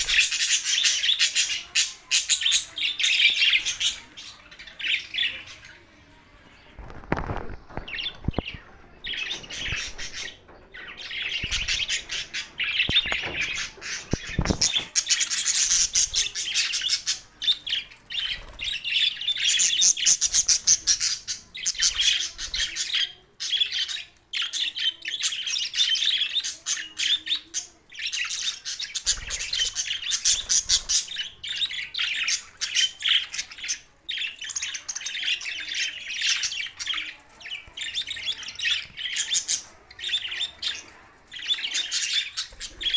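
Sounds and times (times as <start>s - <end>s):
budgerigars chattering and chirping: 0.0s - 5.7s, 6.9s - 42.9s.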